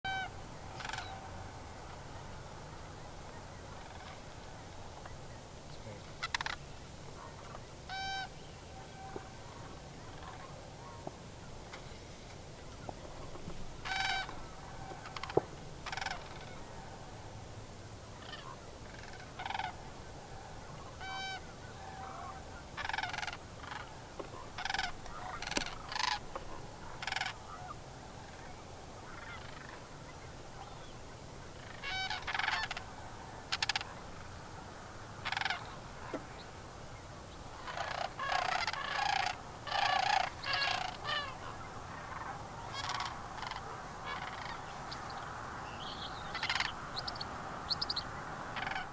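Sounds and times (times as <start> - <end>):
cranes calling: 0.1 - 5.2, 6.1 - 11.9, 12.7 - 17.1, 18.2 - 34.5, 35.1 - 36.6, 37.5 - 48.9.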